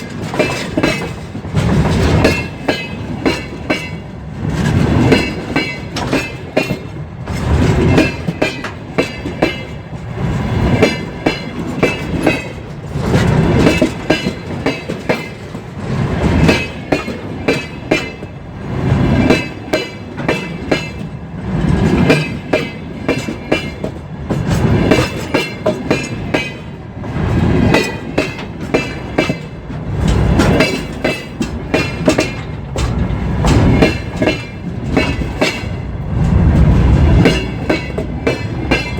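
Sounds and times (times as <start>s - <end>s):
train wheels clattering over joints: 0.0s - 38.9s.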